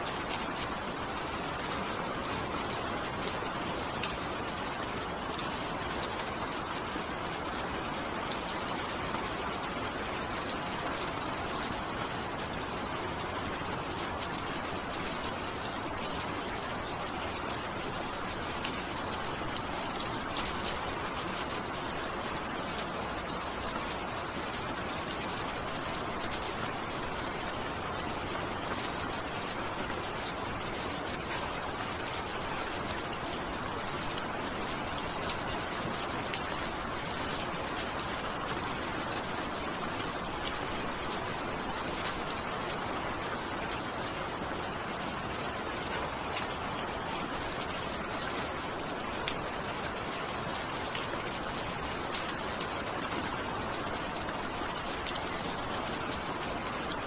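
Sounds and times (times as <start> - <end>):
steady rain falling: 0.0 - 57.0
raindrops ticking: 0.1 - 57.0.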